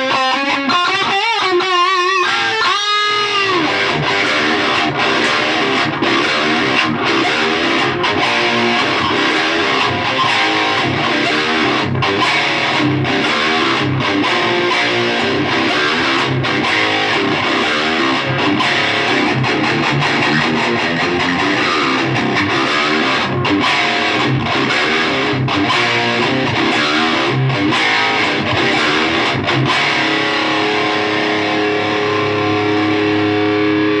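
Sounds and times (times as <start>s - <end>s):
distorted electric guitar: 0.0s - 34.0s.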